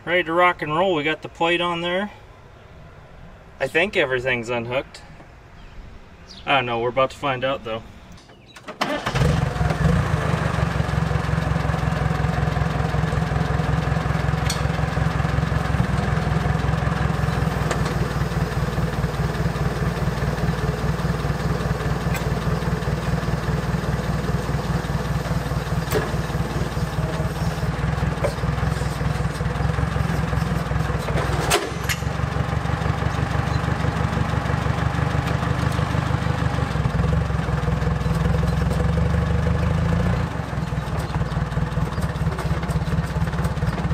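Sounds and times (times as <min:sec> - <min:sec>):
engine idling: 0:07.6 - 0:43.9.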